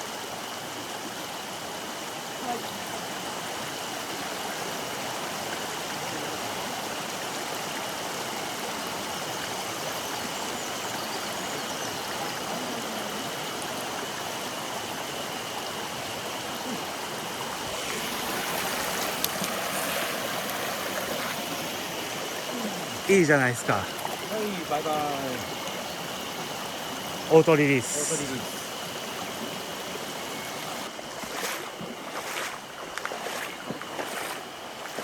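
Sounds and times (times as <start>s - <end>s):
stream water over rocks: 0.0s - 35.0s.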